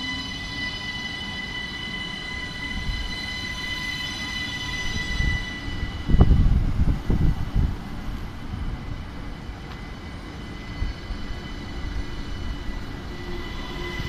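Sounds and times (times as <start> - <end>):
electric train whine: 0.0 - 14.0
train rumbling with thumps: 0.0 - 14.0.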